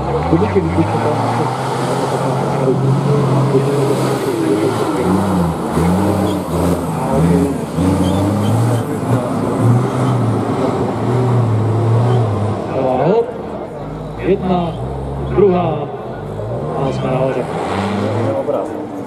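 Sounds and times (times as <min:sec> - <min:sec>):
diesel truck engine revving: 0:00.0 - 0:19.0.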